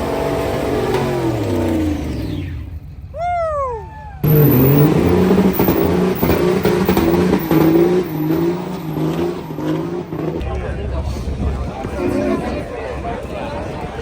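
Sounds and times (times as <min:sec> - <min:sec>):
truck engine revving: 0:00.0 - 0:03.2, 0:04.2 - 0:12.8.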